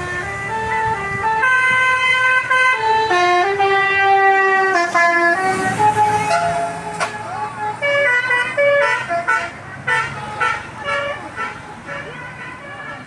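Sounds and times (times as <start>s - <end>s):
musical air horn playing a tune: 0.0s - 13.0s.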